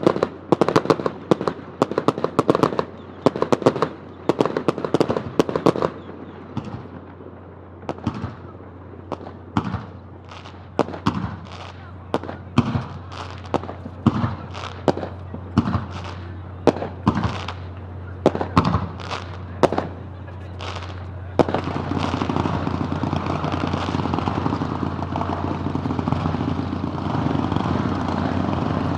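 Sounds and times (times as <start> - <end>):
firework shells bursting: 0.0 - 28.9.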